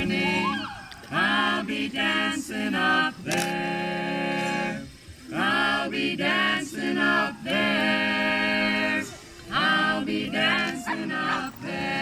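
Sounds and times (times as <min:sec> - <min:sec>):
voices singing unaccompanied: 0:00.0 - 0:12.0.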